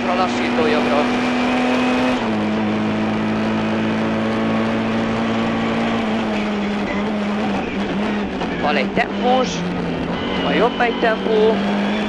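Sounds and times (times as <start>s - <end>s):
car engine at high revs: 0.0s - 12.0s
road noise: 0.0s - 12.0s.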